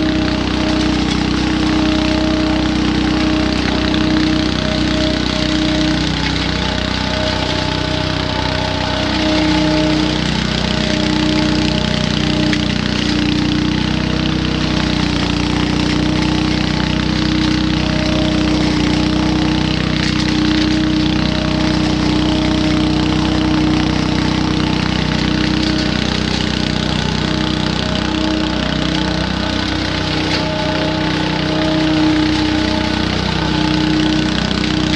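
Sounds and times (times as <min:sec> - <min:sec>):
leaf vacuum engine running: 0:00.0 - 0:34.9.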